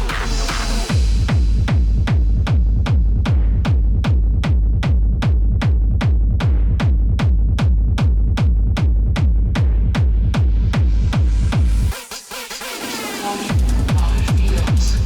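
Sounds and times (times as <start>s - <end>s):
deep kick drum: 0.0s - 12.0s, 13.5s - 15.0s
hard techno music: 0.0s - 15.0s.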